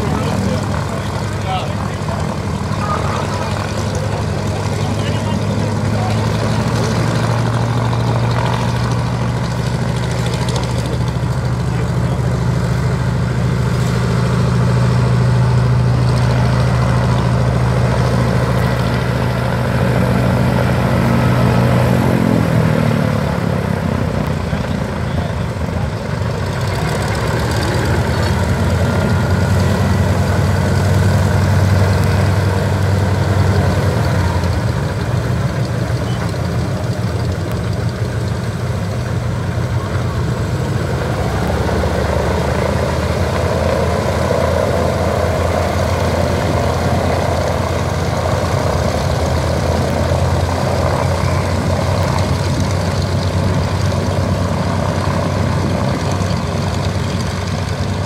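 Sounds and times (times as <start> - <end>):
radial aircraft engines droning: 0.0 - 58.0.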